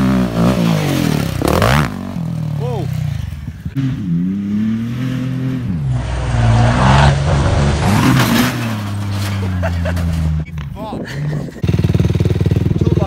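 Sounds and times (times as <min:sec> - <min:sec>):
truck engine revving: 0:00.0 - 0:13.0
tyres on dirt: 0:00.0 - 0:13.0.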